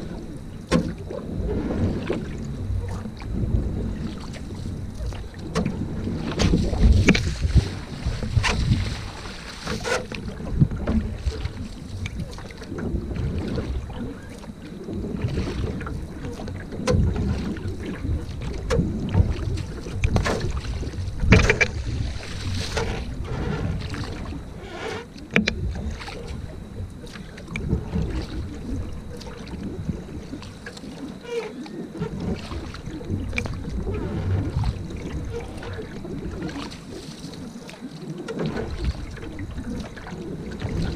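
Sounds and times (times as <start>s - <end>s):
paddle splashing in water: 0.0s - 40.9s
wind on microphone: 0.0s - 40.9s.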